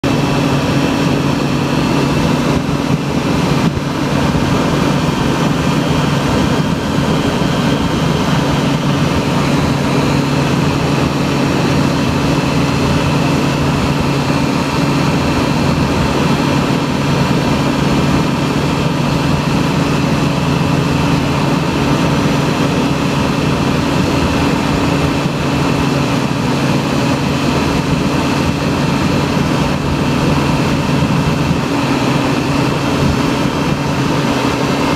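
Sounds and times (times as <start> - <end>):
small aircraft engine droning: 0.0 - 34.9.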